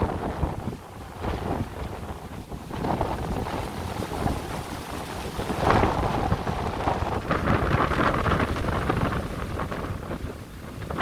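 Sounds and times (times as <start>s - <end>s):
wind buffeting microphone: 0.0s - 11.0s
wind rushing through trees: 0.0s - 11.0s.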